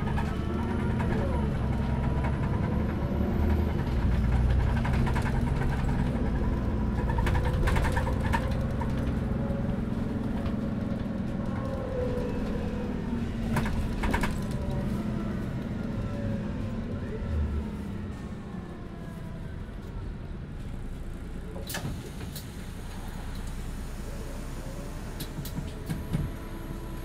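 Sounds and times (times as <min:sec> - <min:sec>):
bus body rattling: 0:00.0 - 0:16.9, 0:20.6 - 0:27.0
bus diesel engine drone: 0:00.0 - 0:27.0.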